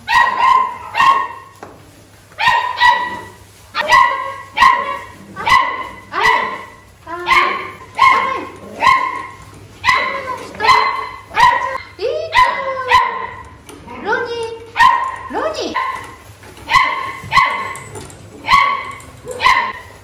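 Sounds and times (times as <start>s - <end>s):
puppy yapping: 0.0s - 1.5s, 2.4s - 14.1s, 14.7s - 19.9s.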